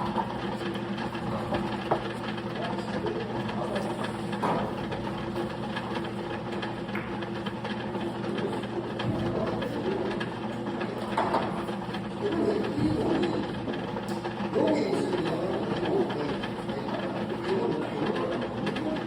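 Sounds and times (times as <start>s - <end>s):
steady room hum: 0.0s - 19.0s.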